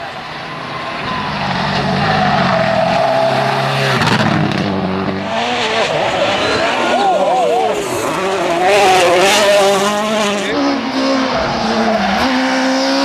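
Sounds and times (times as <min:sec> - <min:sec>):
rally car engine passing: 0:00.0 - 0:13.0.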